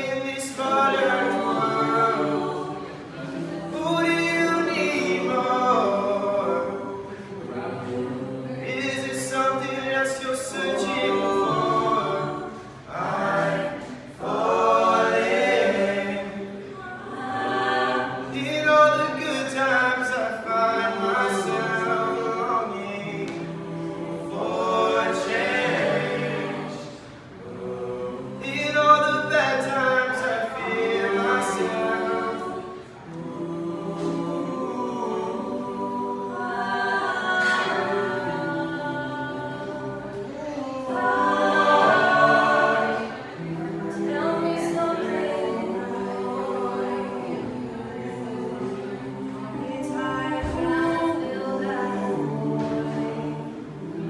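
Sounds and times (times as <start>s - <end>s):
a cappella group singing: 0.0s - 54.0s.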